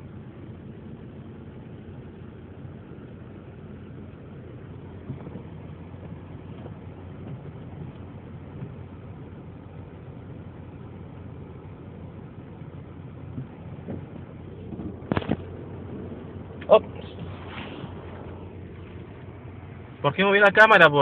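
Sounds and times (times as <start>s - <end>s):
car engine hum: 0.0s - 21.0s
road noise inside car: 0.0s - 21.0s.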